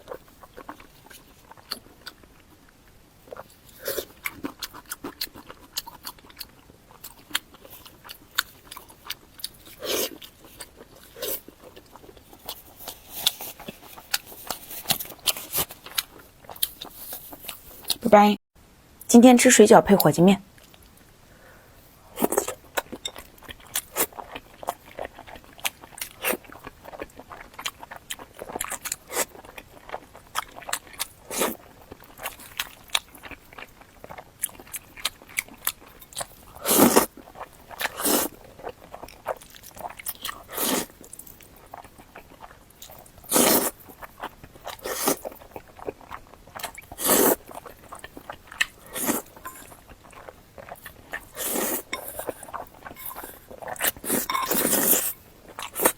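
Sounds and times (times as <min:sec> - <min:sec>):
person chewing food: 0:00.0 - 0:18.0, 0:22.0 - 0:55.9.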